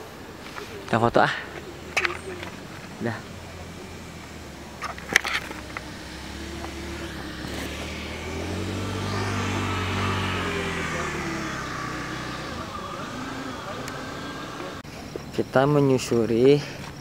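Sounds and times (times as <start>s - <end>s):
vehicle engine passing by: 0.6s - 14.8s.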